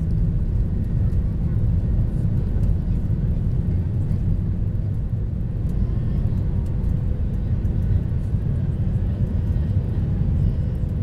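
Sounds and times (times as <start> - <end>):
jet engines deep rumble: 0.0 - 11.0.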